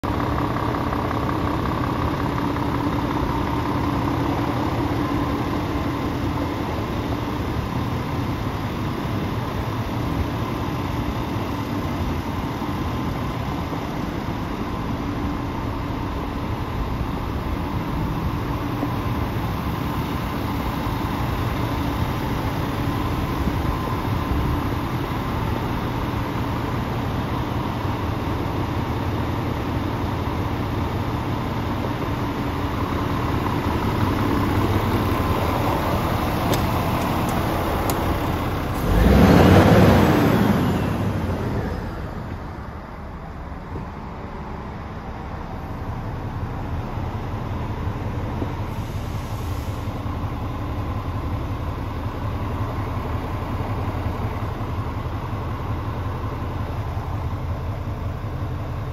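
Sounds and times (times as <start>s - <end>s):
diesel truck engine idling: 0.0s - 58.9s.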